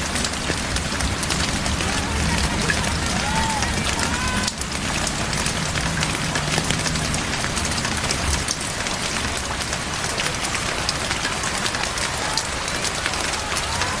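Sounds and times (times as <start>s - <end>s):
heavy rain pouring: 0.0s - 14.0s
raindrops pattering on surfaces: 0.0s - 14.0s.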